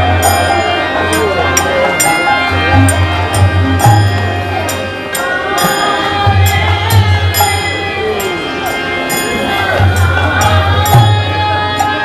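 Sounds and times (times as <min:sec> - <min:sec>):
group singing: 0:00.0 - 0:12.0.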